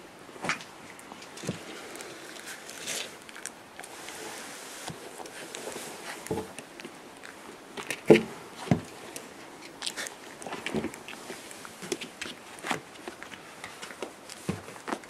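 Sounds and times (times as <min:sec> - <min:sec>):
puppy chewing and mouthing: 0:00.5 - 0:15.0.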